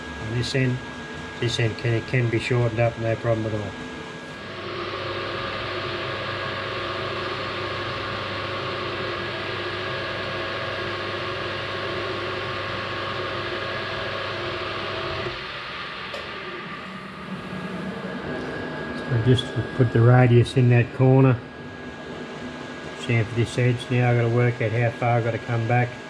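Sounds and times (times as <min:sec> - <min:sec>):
metal lathe running: 0:00.0 - 0:26.0.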